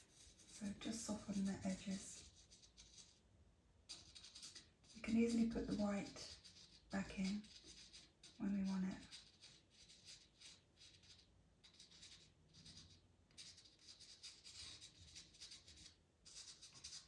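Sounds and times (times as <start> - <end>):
pencil scratching on paper: 0.0 - 3.2, 3.9 - 17.0.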